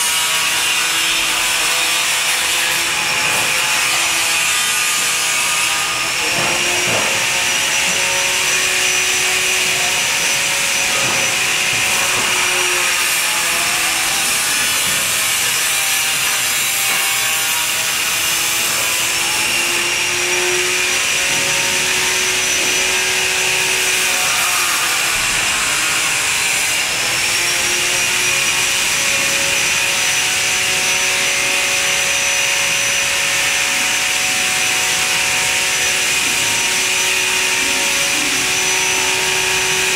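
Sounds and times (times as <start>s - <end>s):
electric pallet truck hiss and hum: 0.0s - 39.9s.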